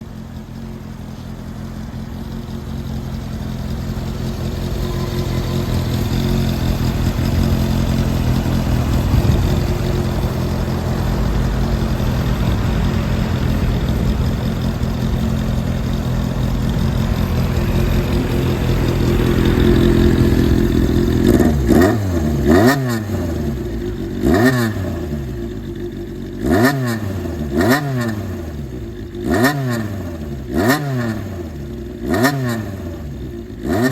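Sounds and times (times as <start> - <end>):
motorcycle engine idling: 0.0 - 33.9
motorcycle throttle blips: 0.1 - 33.9.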